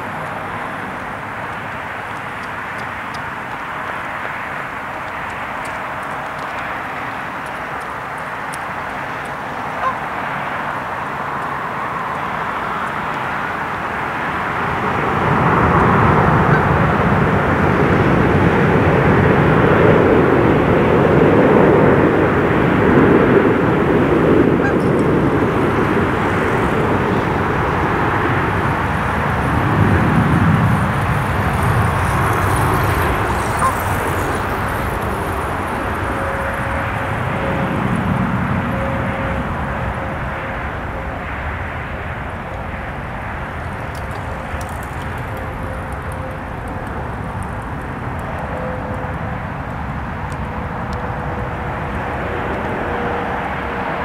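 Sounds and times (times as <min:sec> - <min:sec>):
jet airliner engine rumble: 0:00.0 - 0:54.0.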